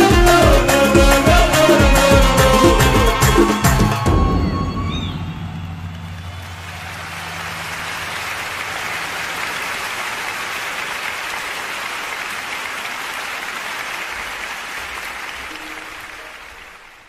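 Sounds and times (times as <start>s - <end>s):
crowd applause: 0.0s - 17.0s.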